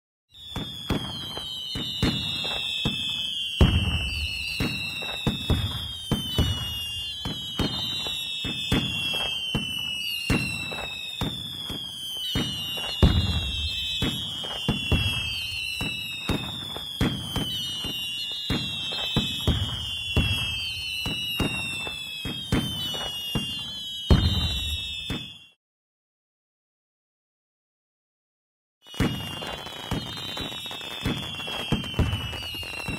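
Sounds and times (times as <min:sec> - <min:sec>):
whistling rockets: 0:00.3 - 0:25.6, 0:28.8 - 0:32.9
fireworks cracks and bangs: 0:00.4 - 0:25.6, 0:28.9 - 0:32.9.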